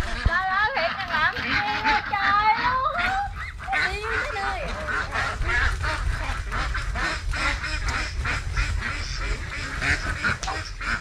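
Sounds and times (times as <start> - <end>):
poultry calling: 0.0 - 11.0.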